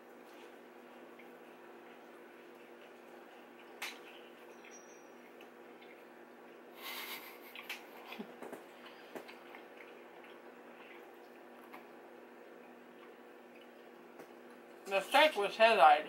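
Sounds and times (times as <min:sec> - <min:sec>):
chewing and wet mouth sounds: 0:00.0 - 0:14.9
steady low hum: 0:00.0 - 0:16.0.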